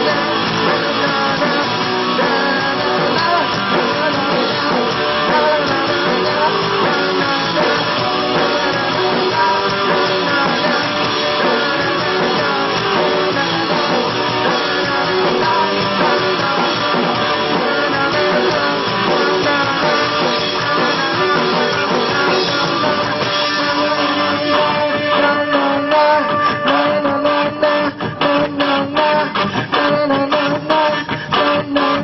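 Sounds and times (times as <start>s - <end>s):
live pop-rock band playing: 0.0s - 32.0s.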